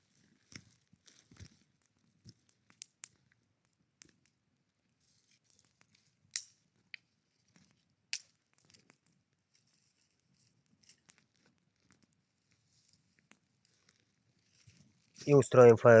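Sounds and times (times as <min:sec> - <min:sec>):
campfire crackling: 0:00.0 - 0:04.5, 0:05.4 - 0:12.4, 0:13.0 - 0:16.0.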